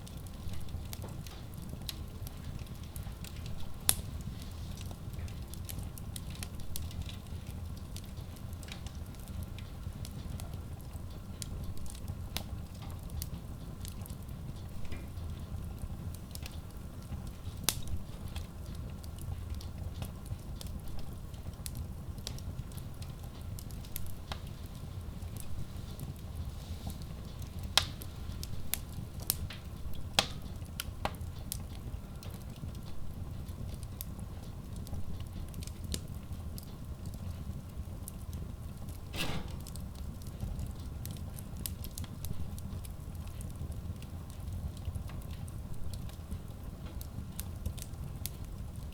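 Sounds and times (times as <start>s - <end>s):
fire crackling in a stove: 0.0s - 48.9s.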